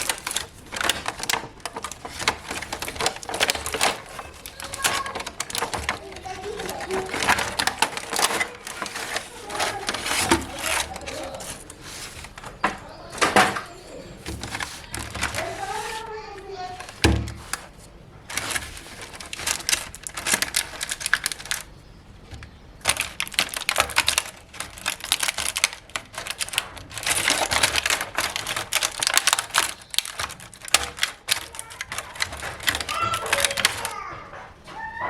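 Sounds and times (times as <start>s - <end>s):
plastic pieces clicking and crinkling: 0.0s - 34.8s.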